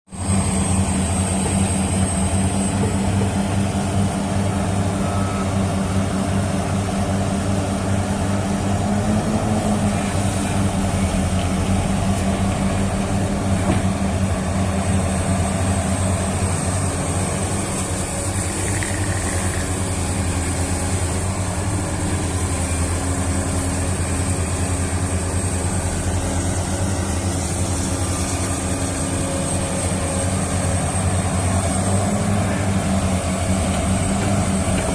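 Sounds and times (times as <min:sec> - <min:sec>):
low diesel engine drone: 0:00.1 - 0:34.9.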